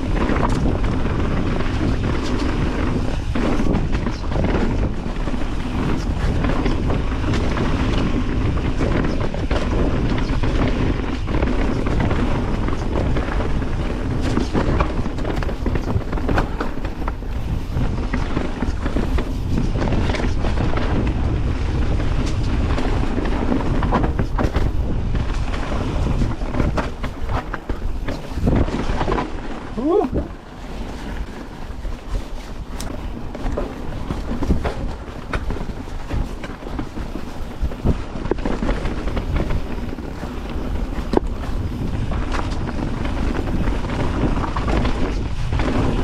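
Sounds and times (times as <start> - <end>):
bike rattling and knocking: 0.0 - 46.0
tyres rolling over dirt: 0.0 - 46.0
wind rumbling on microphone: 0.0 - 46.0.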